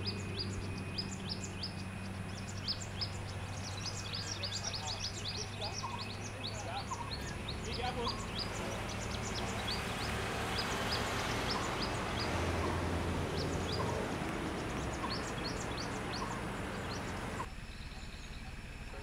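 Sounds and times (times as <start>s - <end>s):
high rising bird chirps: 0.0s - 18.5s
low hum: 0.0s - 19.0s.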